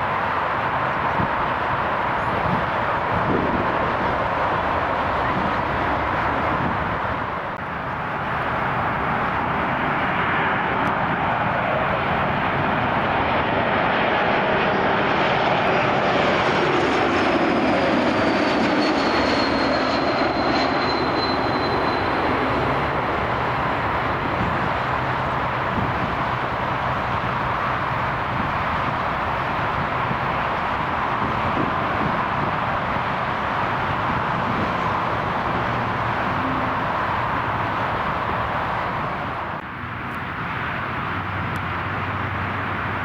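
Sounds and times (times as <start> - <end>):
jet engines passing: 0.0 - 43.0.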